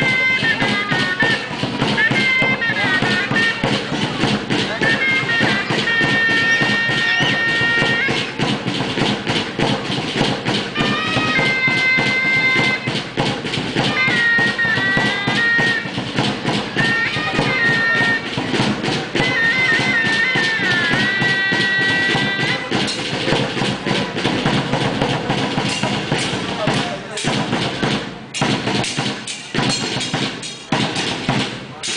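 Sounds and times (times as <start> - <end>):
shawm playing reedy melody: 0.0 - 31.9
steady drumming: 0.0 - 31.9.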